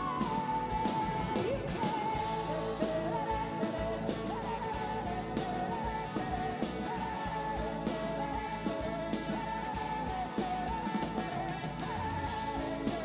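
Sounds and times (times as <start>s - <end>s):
bass: 0.0s - 13.0s
drums: 0.0s - 13.0s.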